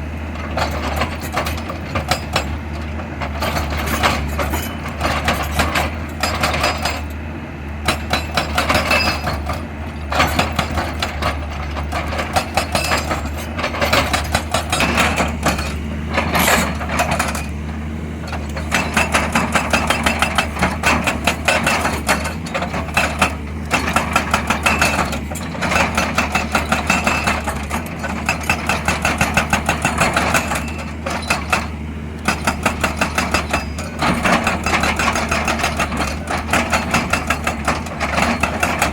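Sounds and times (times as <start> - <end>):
excavator diesel engine running: 0.0 - 38.9
rattling metallic clatter: 0.4 - 7.1, 7.9 - 38.9.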